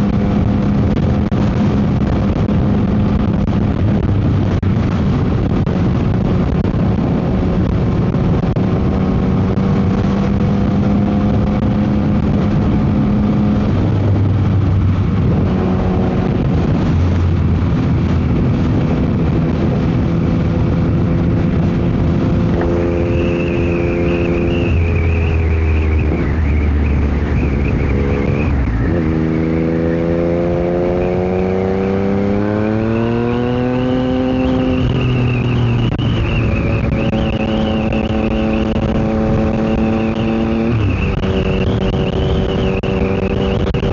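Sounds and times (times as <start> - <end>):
motorcycle engine: 0.0 - 43.9
wind noise on microphone: 0.0 - 43.9.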